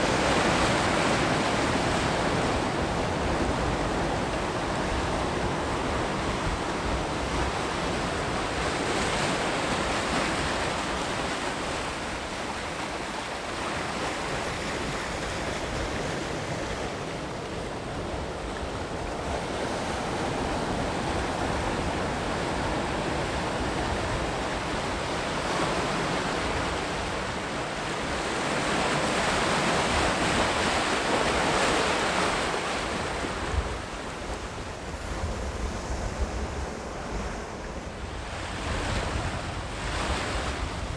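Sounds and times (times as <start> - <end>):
sea surf breaking on shore: 0.0 - 40.9.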